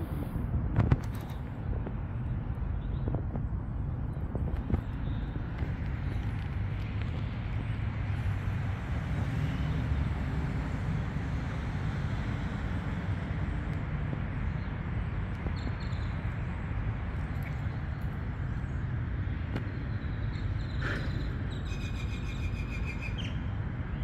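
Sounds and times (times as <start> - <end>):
cars passing on road: 0.0 - 24.0.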